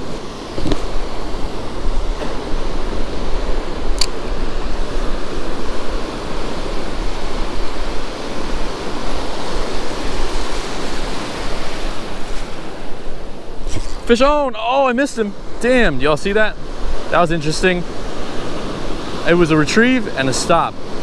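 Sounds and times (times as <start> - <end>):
ocean surf breaking: 0.0 - 21.0.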